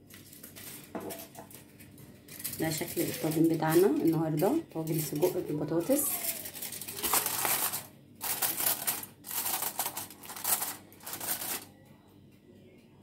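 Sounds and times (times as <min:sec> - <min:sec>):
aluminium foil crinkling: 0:00.0 - 0:11.7.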